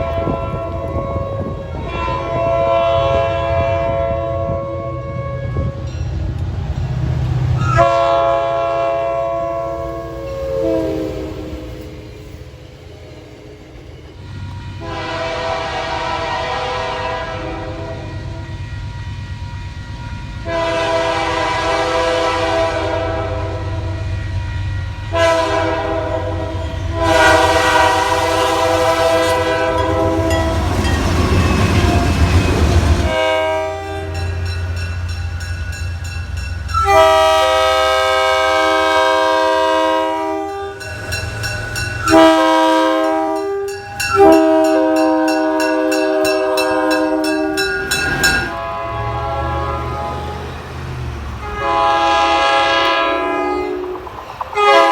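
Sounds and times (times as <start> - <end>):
train air horn blasts: 0.0 - 5.9, 7.6 - 11.8, 14.4 - 18.7, 20.4 - 34.5, 36.7 - 40.9, 42.0 - 50.6, 51.4 - 54.9
train rushing past: 0.0 - 54.9.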